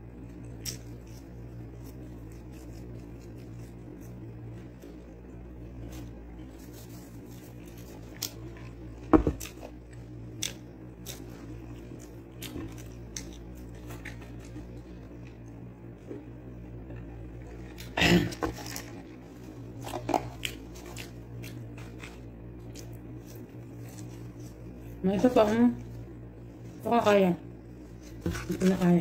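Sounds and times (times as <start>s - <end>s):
low hum: 0.0s - 29.0s
person chewing: 0.1s - 25.0s.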